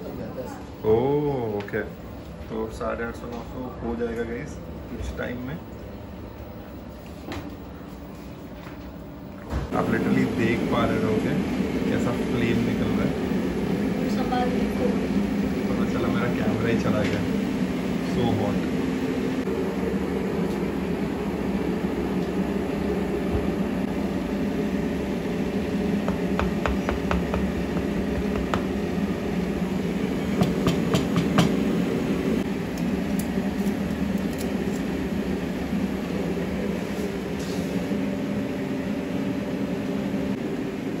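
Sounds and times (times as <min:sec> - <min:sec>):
furnace and machinery hum: 0:00.0 - 0:41.0.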